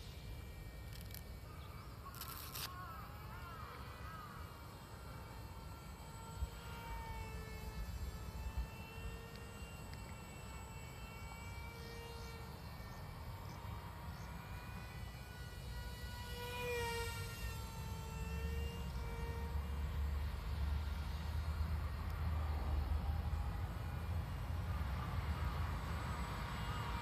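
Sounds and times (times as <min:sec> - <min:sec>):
high-pitched motor whine: 0:00.0 - 0:27.0.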